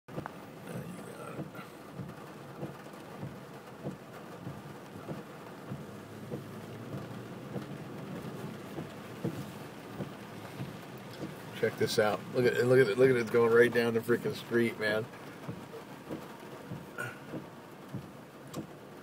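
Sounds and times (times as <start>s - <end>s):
rain tapping on car body: 0.1s - 19.0s
steady rushing noise: 0.1s - 19.0s.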